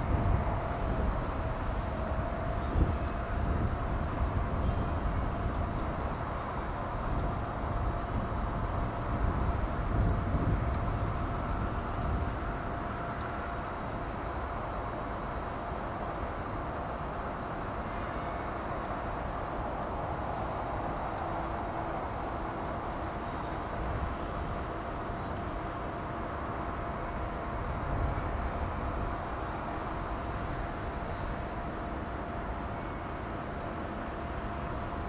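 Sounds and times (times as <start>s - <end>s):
faint steady tone: 0.0s - 35.0s
machinery hum: 0.0s - 35.0s.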